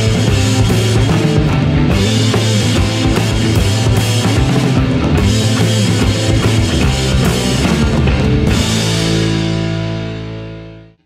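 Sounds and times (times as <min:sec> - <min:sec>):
rock music with heavy drums: 0:00.0 - 0:11.0.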